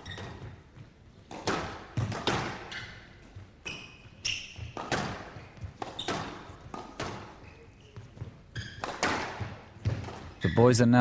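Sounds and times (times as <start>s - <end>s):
squash ball hitting rackets and walls: 0.0s - 10.7s
shoes squeaking on court floor: 0.0s - 11.0s.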